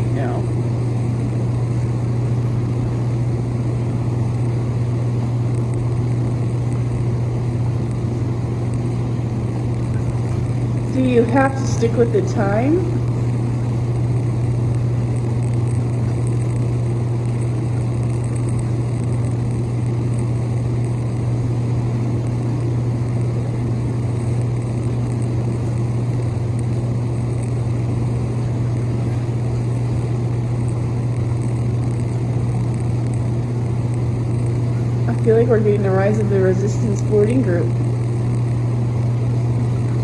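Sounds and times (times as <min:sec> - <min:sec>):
pump humming: 0:00.0 - 0:40.0.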